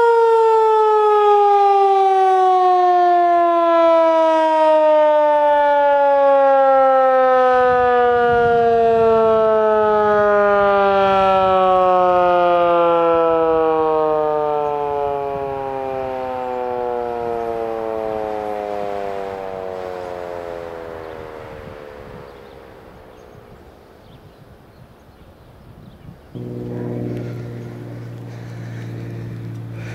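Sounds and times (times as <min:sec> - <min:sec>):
siren wailing tone winding down: 0:00.0 - 0:24.0, 0:26.4 - 0:29.9.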